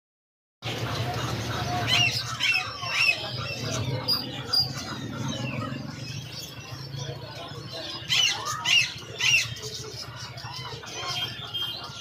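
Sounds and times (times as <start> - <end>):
caged birds squawking and chirping: 0.6 - 12.0.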